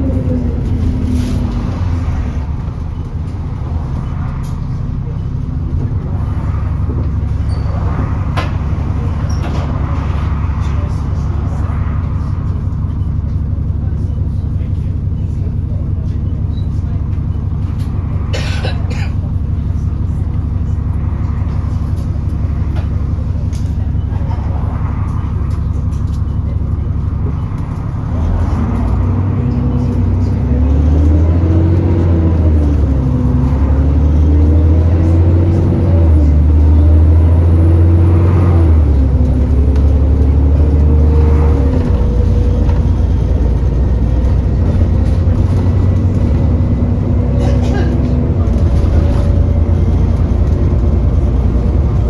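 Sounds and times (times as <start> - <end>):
bus diesel engine: 0.0 - 52.0
high engine whine: 0.0 - 52.0.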